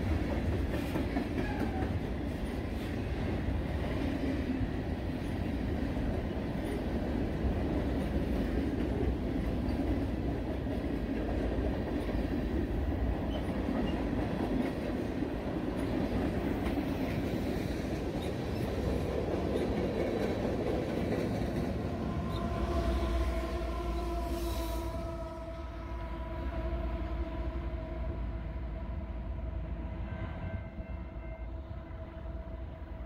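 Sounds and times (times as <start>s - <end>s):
train rumbling on rail: 0.0s - 33.0s.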